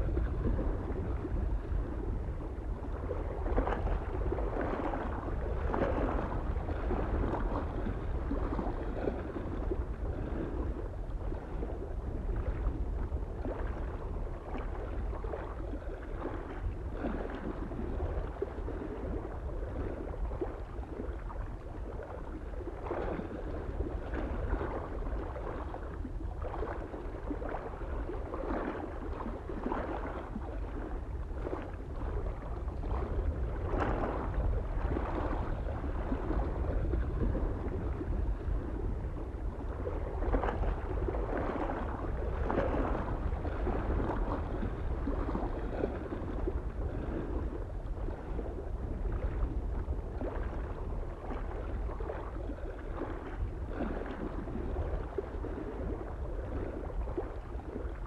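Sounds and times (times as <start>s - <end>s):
low rumble of wind: 0.0s - 58.0s
waves lapping against shore: 0.0s - 58.0s.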